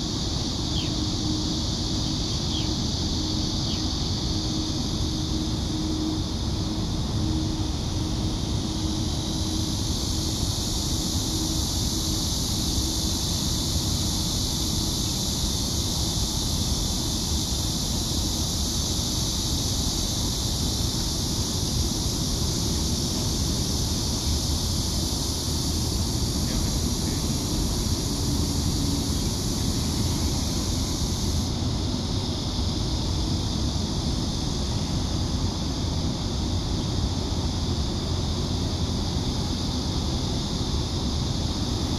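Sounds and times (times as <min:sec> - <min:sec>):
constant high hiss: 0:00.0 - 0:41.9.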